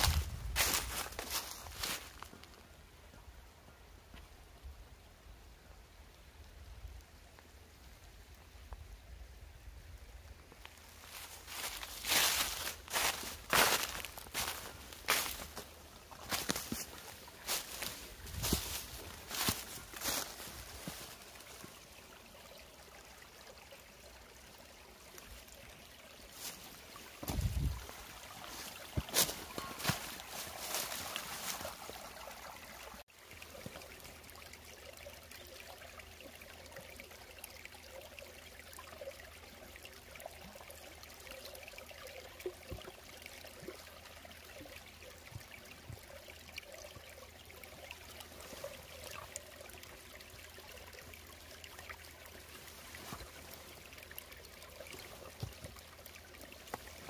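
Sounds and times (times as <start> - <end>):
water trickling: 0.0 - 2.9, 5.4 - 57.0.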